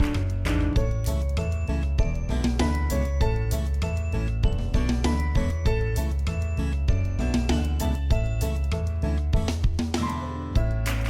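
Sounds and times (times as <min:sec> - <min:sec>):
background music with strong bass: 0:00.0 - 0:11.0.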